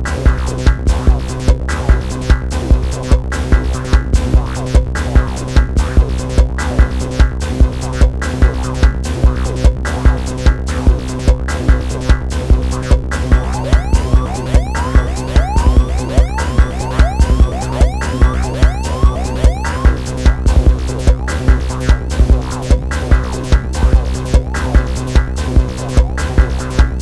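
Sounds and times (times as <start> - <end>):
steady kick drum: 0.0 - 27.0
synth bass drone: 0.0 - 27.0.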